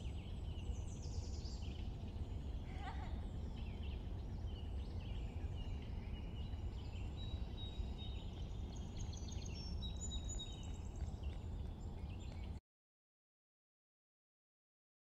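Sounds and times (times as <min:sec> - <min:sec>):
low background rumble: 0:00.0 - 0:12.6
songbirds chirping and singing: 0:00.0 - 0:12.6.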